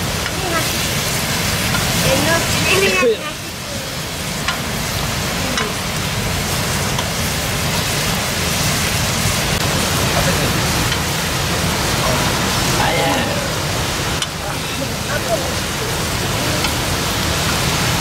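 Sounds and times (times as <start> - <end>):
chicken sizzling in a pan: 0.0 - 18.0
wood fire crackles: 0.0 - 18.0.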